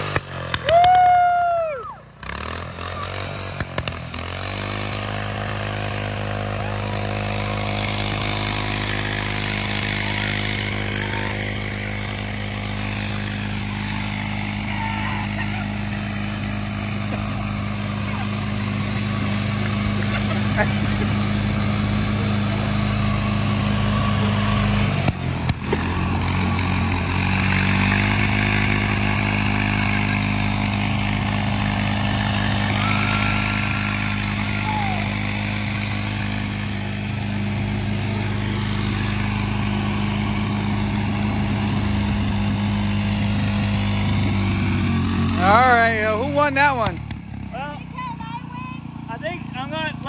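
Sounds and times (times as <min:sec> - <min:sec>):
riding lawn mower engine: 0:00.0 - 0:50.0.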